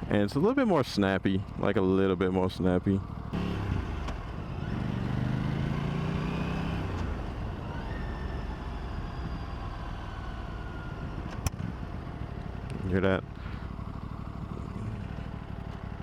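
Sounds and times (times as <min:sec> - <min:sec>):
motorcycle engine revving: 0:03.0 - 0:16.0.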